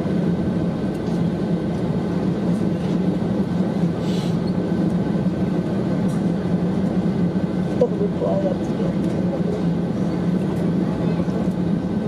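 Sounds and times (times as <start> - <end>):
aircraft cabin low rumble: 0.0 - 12.0
thin constant engine whine: 0.0 - 12.0.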